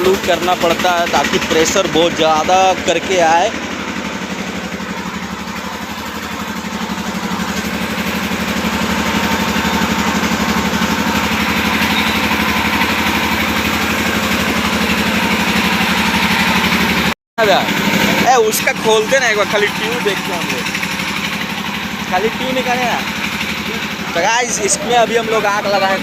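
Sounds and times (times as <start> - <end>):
generator engine running: 0.0 - 26.0.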